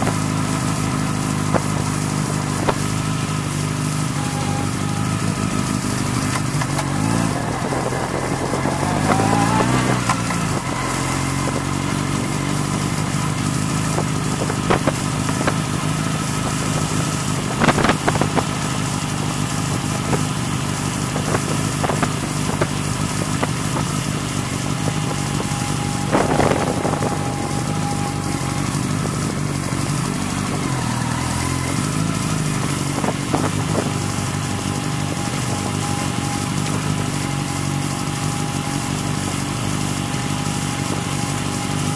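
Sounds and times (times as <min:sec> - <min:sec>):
motorbike engine running: 0:00.0 - 0:41.9.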